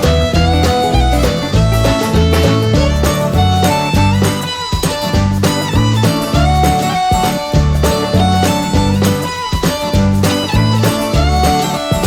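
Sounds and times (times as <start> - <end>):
guitar music with bass: 0.0 - 12.0.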